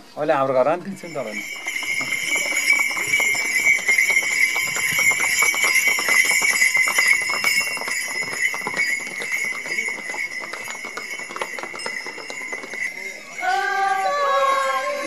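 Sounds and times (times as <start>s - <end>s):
harness bells jingling: 0.6s - 15.0s.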